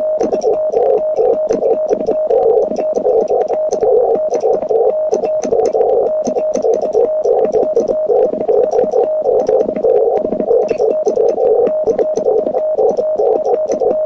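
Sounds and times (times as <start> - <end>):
morse code tone: 0.0 - 14.0.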